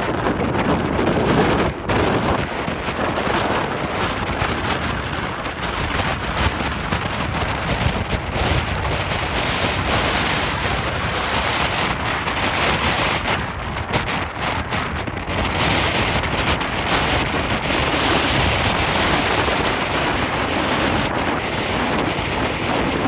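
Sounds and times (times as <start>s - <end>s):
surf washing on beach: 0.0s - 23.0s
wind buffeting microphone: 0.0s - 23.0s.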